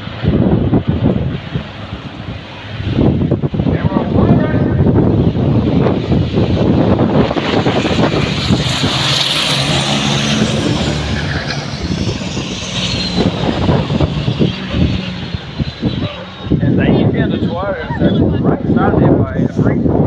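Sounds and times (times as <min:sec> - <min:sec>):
pitched engine drone: 0:00.0 - 0:19.0
race trucks passing by: 0:00.0 - 0:20.0.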